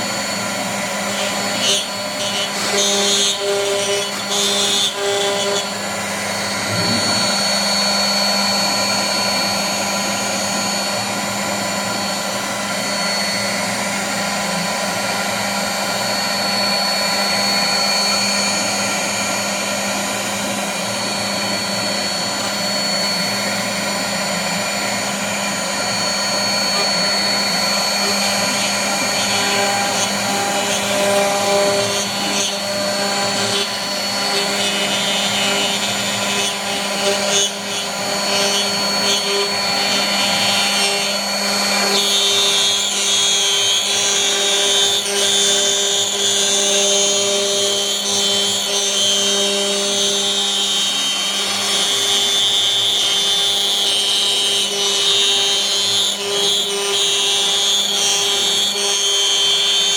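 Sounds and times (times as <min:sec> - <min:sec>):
router spindle whining cutting wood: 0:00.0 - 0:59.9.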